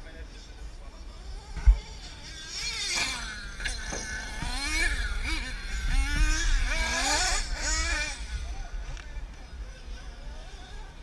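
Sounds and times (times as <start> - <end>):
toy car motor whining: 1.1 - 11.0.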